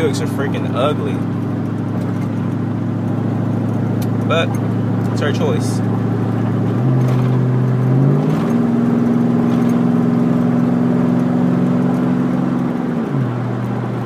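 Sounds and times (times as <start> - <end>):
pickup engine revving: 0.0 - 14.0.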